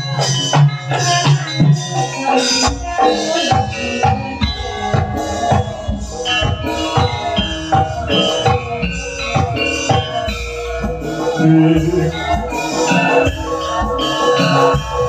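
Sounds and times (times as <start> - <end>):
ringing metallophone notes: 0.0 - 15.0.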